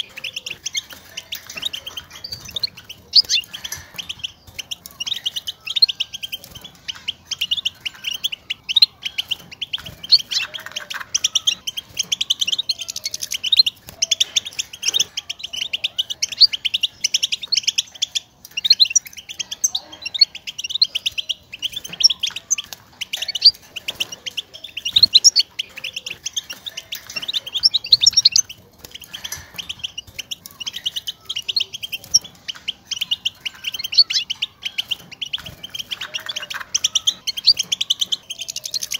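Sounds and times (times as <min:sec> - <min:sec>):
goldfinch twittering: 0:00.0 - 0:38.9.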